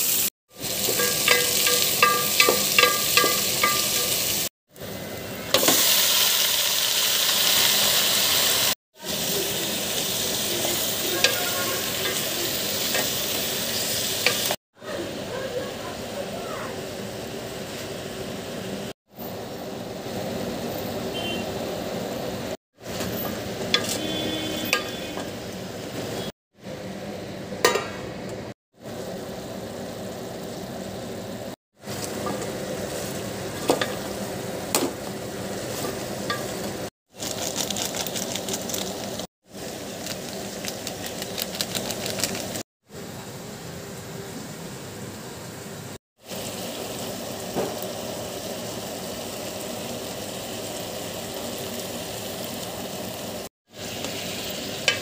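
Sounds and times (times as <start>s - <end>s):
chicken sizzling in a pot: 0.0s - 55.0s.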